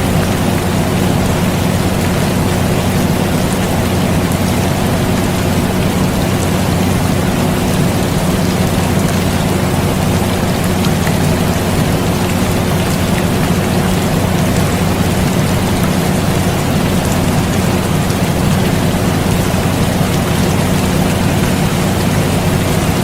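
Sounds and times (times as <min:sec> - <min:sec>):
air conditioner humming: 0:00.0 - 0:23.0
steady rain falling: 0:00.0 - 0:23.0.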